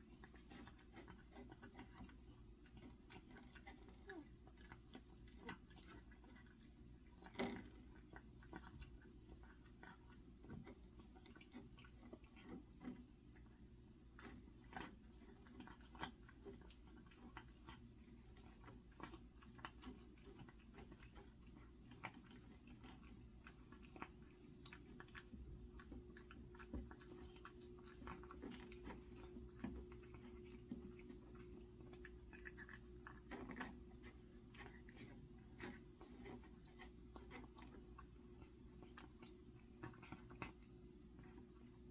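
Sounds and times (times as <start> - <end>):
cat chewing: 0.0 - 41.9
low steady hum: 0.0 - 41.9.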